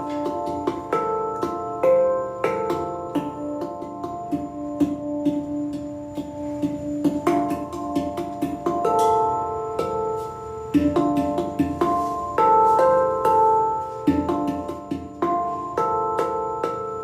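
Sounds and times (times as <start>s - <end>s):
handpan melody: 0.0s - 17.0s.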